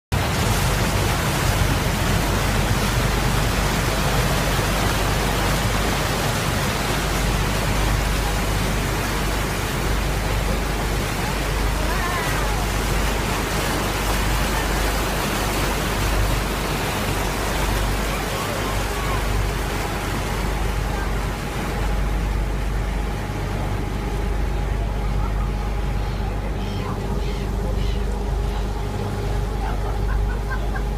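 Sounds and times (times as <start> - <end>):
low engine drone: 0.1 - 30.9
wake water rushing: 0.1 - 30.9.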